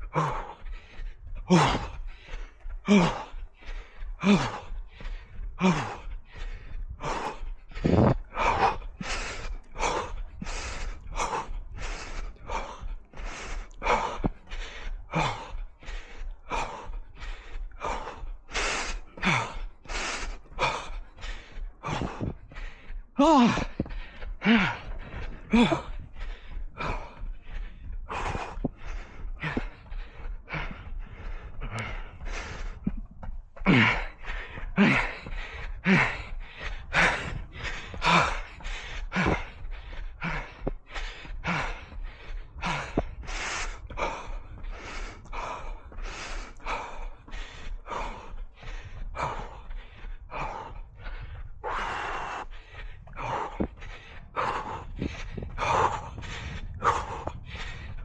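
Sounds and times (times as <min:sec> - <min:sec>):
runner breathing hard: 0:00.0 - 0:58.0.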